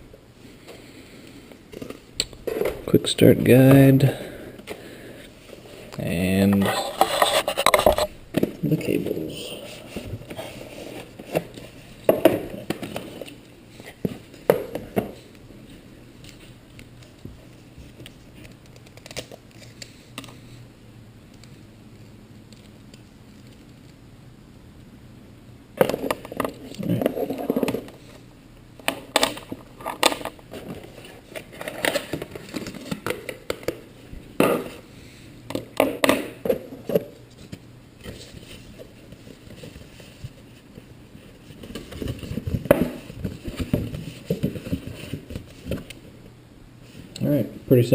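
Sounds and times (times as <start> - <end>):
cables and packaging handled: 0.5 - 20.6, 21.3 - 24.0, 25.8 - 28.2, 28.8 - 47.1.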